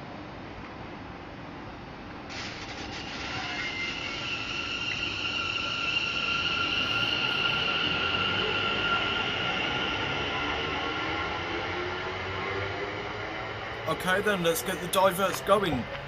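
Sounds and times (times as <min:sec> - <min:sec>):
train running noise: 0:00.0 - 0:16.0
high-pitched whine: 0:01.5 - 0:16.0.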